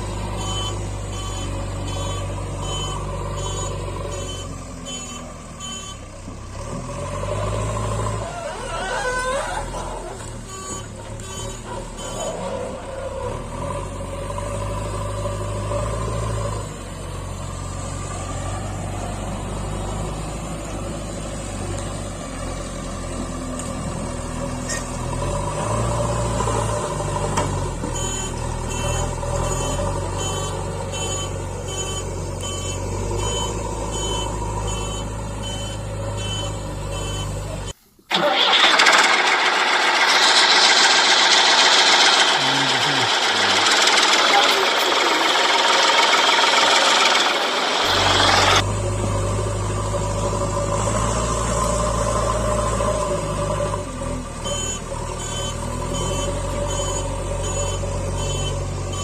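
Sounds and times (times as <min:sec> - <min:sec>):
heavy machinery diesel engine: 0:00.0 - 0:59.0.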